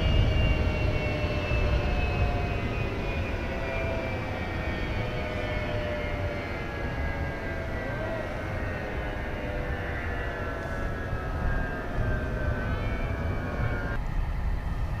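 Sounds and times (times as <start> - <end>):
jet engine rumble and whine: 0.0 - 15.0.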